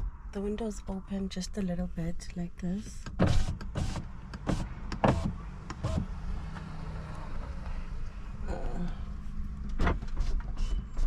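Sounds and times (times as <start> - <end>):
vehicle rumble inside car: 0.0 - 11.0.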